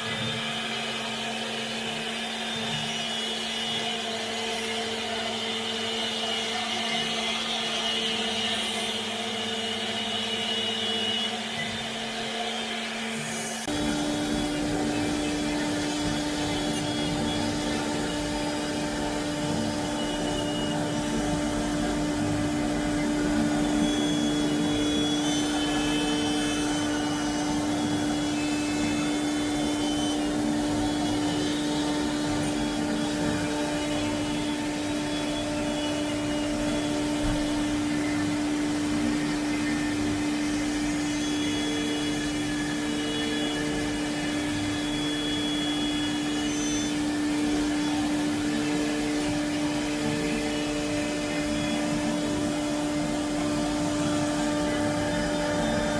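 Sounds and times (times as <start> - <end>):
router spindle cutting foam board: 0.0 - 55.9
steady hum: 0.0 - 55.9.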